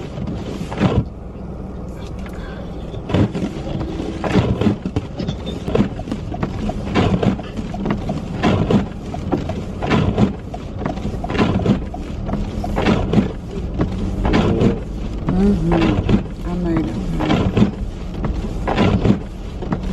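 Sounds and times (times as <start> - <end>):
engine and road rumble: 0.0 - 19.9
windshield wipers swishing: 0.0 - 19.9.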